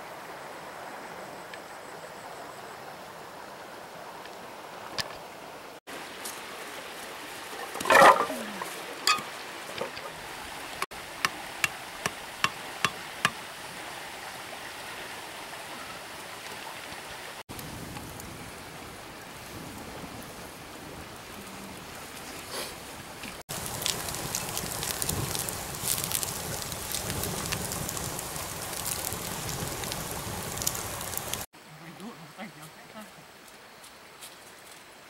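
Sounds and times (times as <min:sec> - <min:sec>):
rustle: 0:00.0 - 0:35.0
river rushing: 0:03.2 - 0:34.2.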